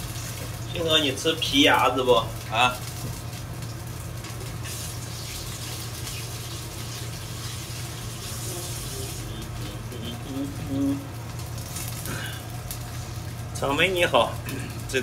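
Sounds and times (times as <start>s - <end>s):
constant low hum: 0.0s - 15.0s
vegetables sizzling in oil: 0.0s - 15.0s.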